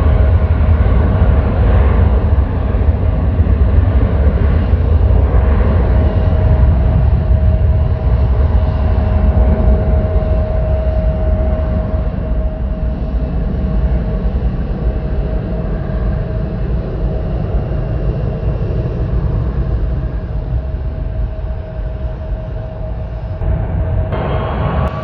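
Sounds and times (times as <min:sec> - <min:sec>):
jet engines rumbling and whining: 0:00.0 - 0:25.0.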